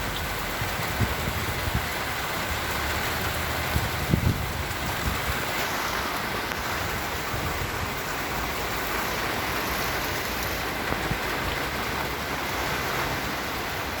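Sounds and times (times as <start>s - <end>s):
rain falling on plants: 0.0s - 14.0s.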